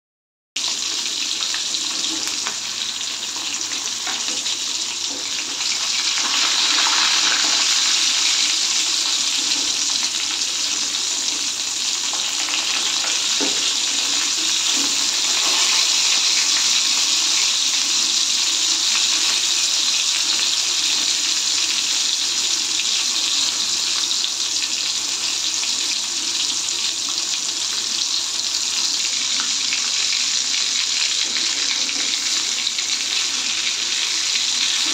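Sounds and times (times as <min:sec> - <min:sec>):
chicken sizzling in hot oil: 0:00.6 - 0:34.9.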